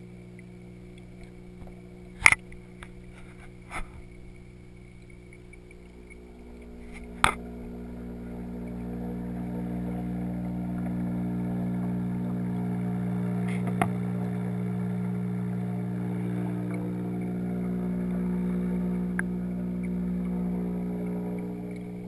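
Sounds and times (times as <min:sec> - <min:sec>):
aquarium pump hum: 0:00.0 - 0:22.0.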